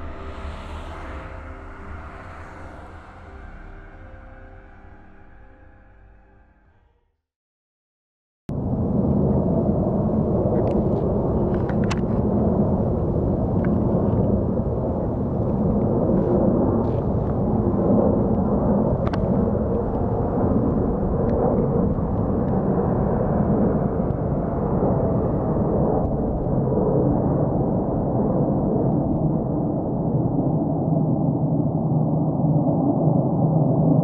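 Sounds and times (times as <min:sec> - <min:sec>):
jet airliner rumble overhead: 0:00.0 - 0:05.7, 0:08.5 - 0:34.0.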